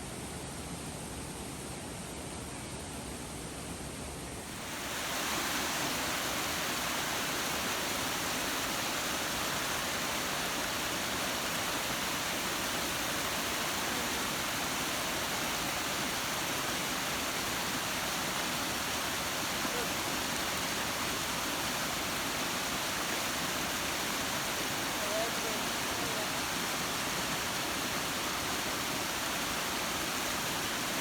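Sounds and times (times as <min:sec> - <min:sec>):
waterfall rushing: 0:04.4 - 0:31.0.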